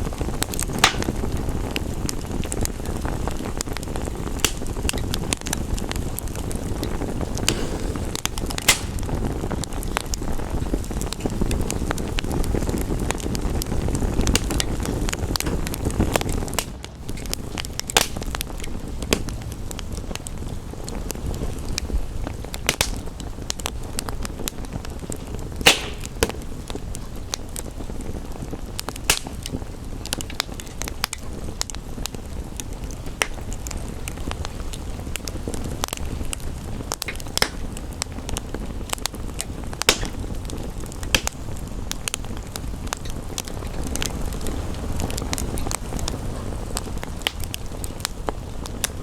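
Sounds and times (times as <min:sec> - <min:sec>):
sharp pops and snaps: 0:00.0 - 0:49.0
wood fire crackling: 0:00.0 - 0:49.0.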